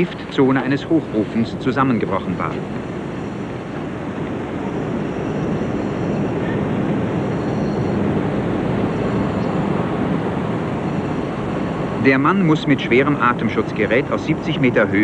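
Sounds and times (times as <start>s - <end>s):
industrial rushing noise: 0.0s - 15.0s.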